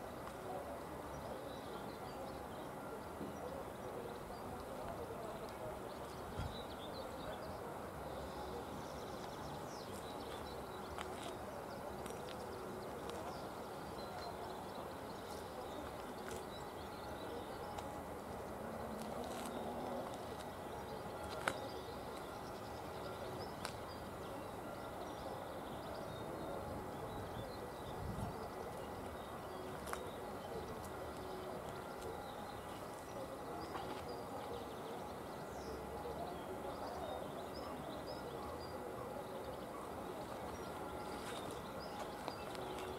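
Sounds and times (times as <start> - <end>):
birds chirping: 0.4 - 42.9.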